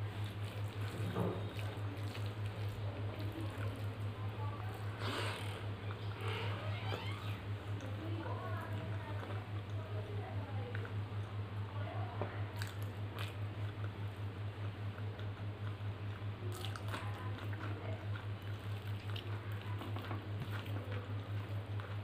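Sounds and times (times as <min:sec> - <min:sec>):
chewing and wet squishing: 0:00.0 - 0:22.0.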